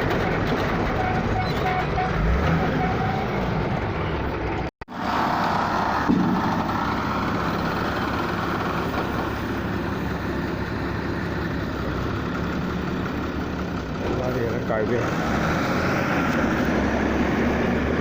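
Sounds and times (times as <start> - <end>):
heavy machinery engine running: 0.0 - 18.0.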